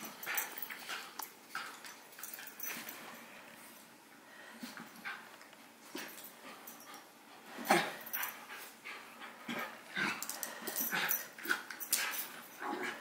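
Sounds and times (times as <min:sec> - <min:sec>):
small dogs play-fighting: 0:00.0 - 0:03.1, 0:04.6 - 0:13.0.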